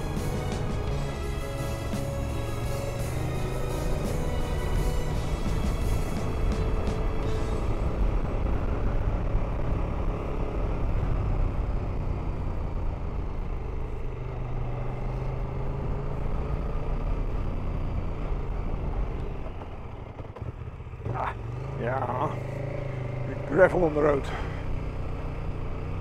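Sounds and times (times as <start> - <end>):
motorcycle engine drone: 0.0 - 26.0
wind and road noise: 0.0 - 26.0.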